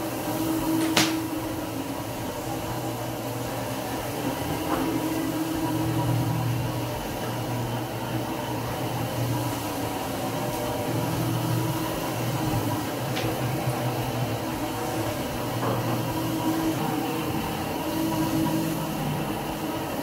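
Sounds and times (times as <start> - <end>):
floor polisher motor humming: 0.0 - 20.0.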